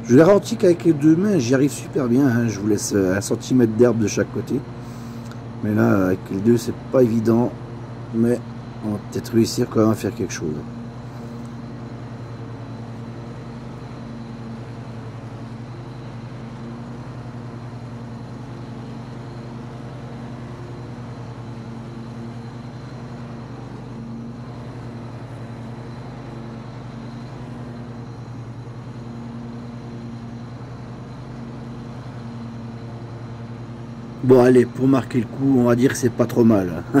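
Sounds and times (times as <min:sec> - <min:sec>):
faint high whine: 0:00.0 - 0:37.0
ride-on mower engine drone: 0:00.0 - 0:37.0.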